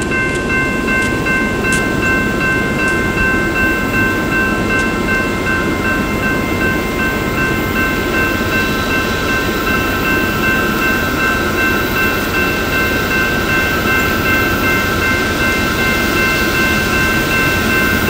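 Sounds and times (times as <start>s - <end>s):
approaching train rumble: 0.0s - 18.0s
railroad crossing bell ringing: 0.0s - 18.0s.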